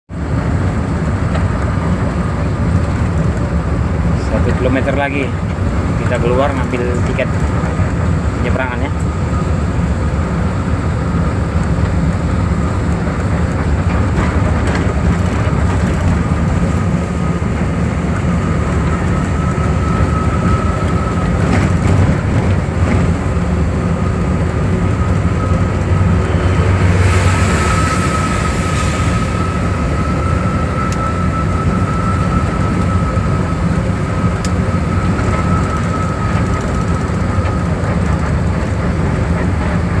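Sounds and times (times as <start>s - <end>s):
vehicle engine and road rumble: 0.1s - 40.0s
faint steady whine: 1.9s - 39.0s.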